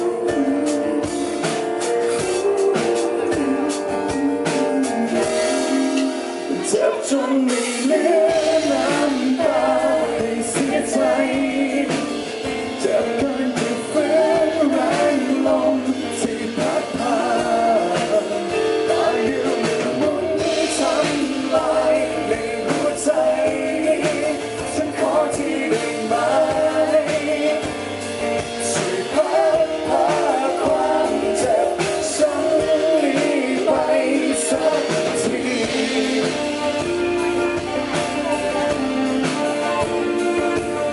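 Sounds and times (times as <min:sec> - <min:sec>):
rock band music: 0:00.0 - 0:40.9
wavering lead melody: 0:00.0 - 0:40.9.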